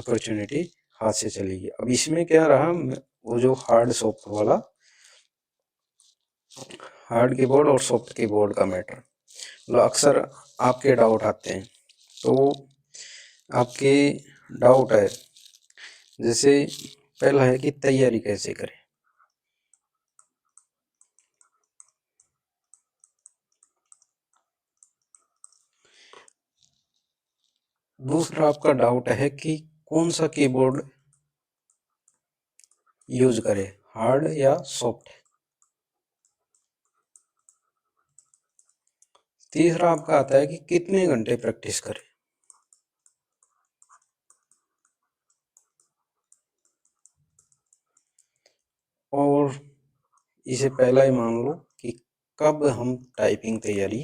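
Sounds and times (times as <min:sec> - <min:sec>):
faint keyboard typing: 0:02.9 - 0:05.3, 0:05.9 - 0:28.8, 0:30.1 - 0:33.6, 0:34.2 - 0:49.0, 0:49.8 - 0:52.0.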